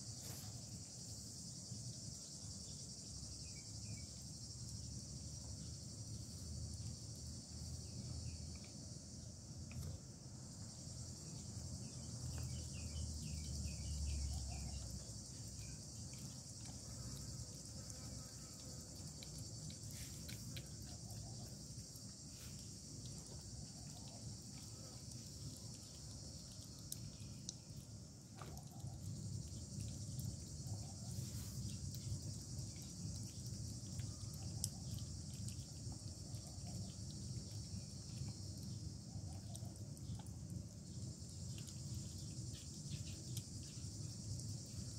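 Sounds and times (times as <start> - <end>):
insects chorus: 0.0 - 44.9.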